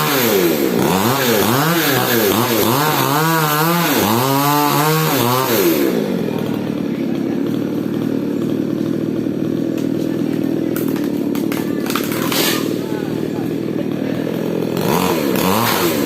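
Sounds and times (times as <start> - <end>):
mini chainsaw engine running: 0.0 - 16.0.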